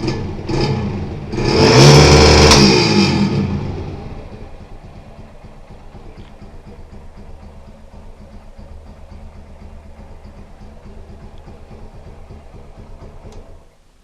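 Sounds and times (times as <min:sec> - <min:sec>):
motorcycle engine idling: 0:00.0 - 0:01.5, 0:02.1 - 0:14.0.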